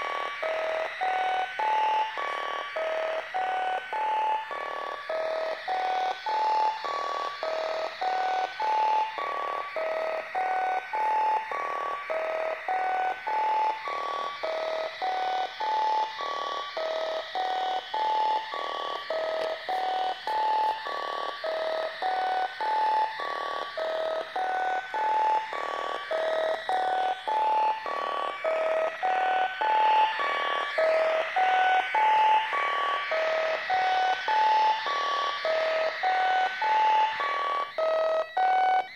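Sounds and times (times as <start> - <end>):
looping electronic blips: 0.0 - 38.9.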